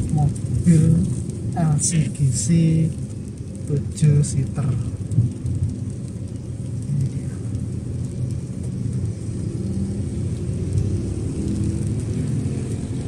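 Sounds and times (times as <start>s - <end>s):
car engine and tyre noise: 0.0s - 13.0s
light hiss of rain: 0.0s - 13.0s.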